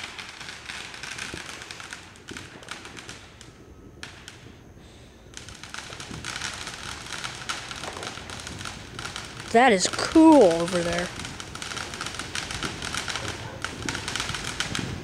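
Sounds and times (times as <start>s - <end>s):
distant fireworks crackling: 0.0s - 15.0s.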